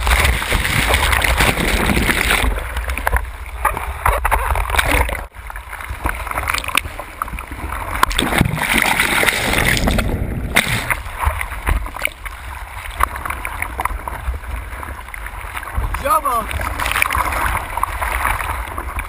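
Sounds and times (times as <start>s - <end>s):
low rumble of water buffeting: 0.0s - 19.0s
whitewater rushing and splashing: 0.0s - 19.0s.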